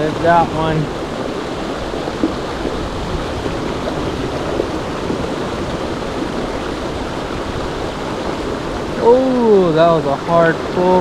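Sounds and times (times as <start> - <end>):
river flowing over rocks: 0.0 - 11.0.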